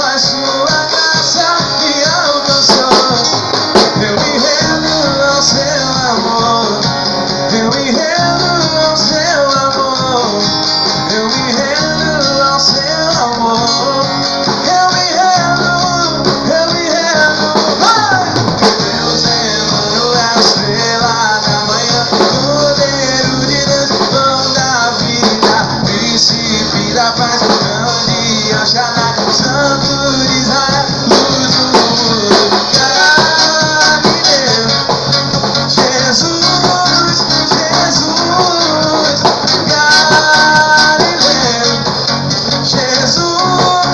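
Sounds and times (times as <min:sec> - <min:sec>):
guitar: 0:00.0 - 0:43.9
person singing: 0:00.0 - 0:43.9
rock band playing: 0:00.0 - 0:43.9.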